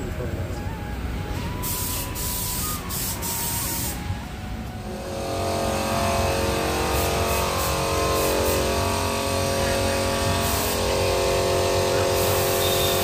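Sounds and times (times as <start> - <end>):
steady machine drone: 0.0 - 13.0
spray gun air hissing: 1.5 - 4.2, 5.1 - 13.0.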